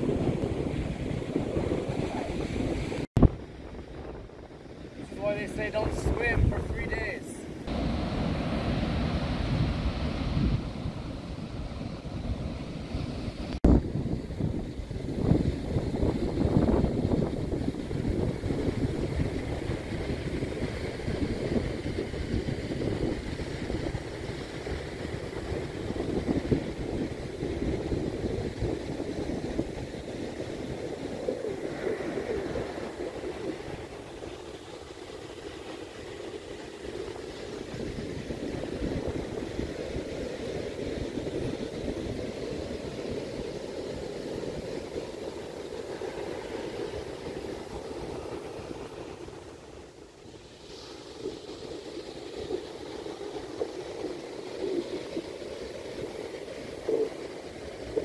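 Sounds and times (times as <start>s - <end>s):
surf rushing: 0.0s - 58.0s
wind buffeting the microphone: 0.0s - 58.0s.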